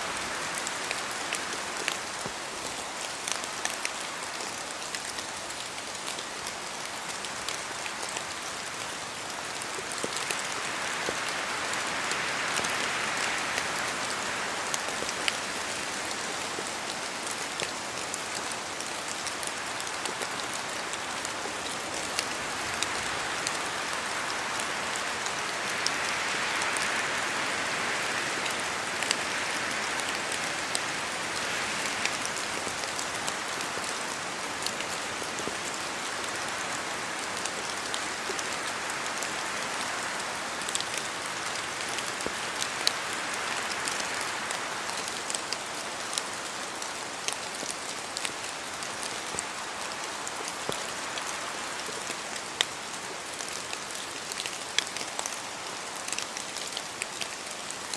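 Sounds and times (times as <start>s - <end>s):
rain falling through trees: 0.0s - 57.9s
wind in trees: 0.0s - 57.9s.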